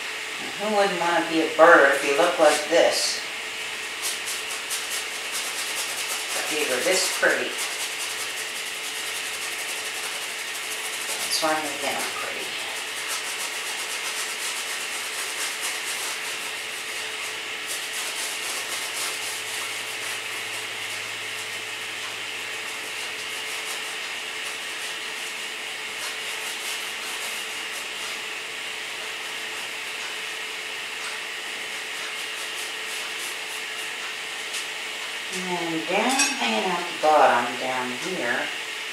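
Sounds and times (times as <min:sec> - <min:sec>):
paintbrush scrubbing canvas: 0:00.9 - 0:03.2, 0:03.9 - 0:35.1.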